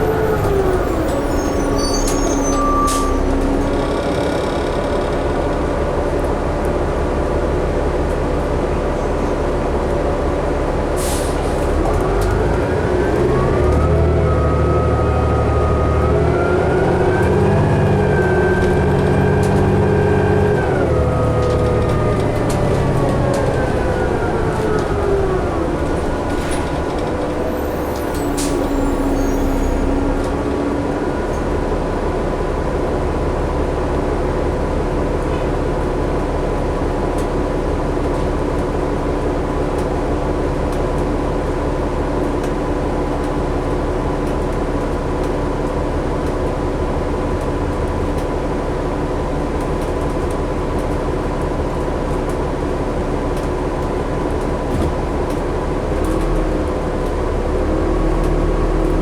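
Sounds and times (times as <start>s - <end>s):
bus engine running: 0.0s - 59.0s
road noise: 0.0s - 59.0s.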